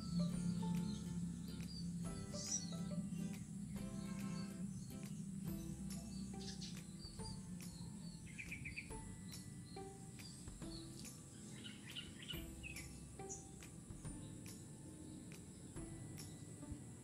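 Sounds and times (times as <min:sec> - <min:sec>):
birds chirping: 0:00.0 - 0:17.0
faint background music: 0:00.0 - 0:17.0
high-pitched hiss: 0:00.0 - 0:17.0.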